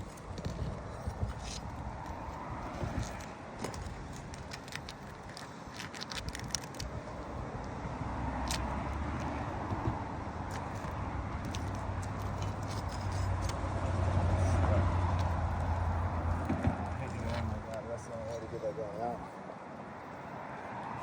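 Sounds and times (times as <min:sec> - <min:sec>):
tool clicking and scraping: 0:00.0 - 0:07.1, 0:08.4 - 0:18.4.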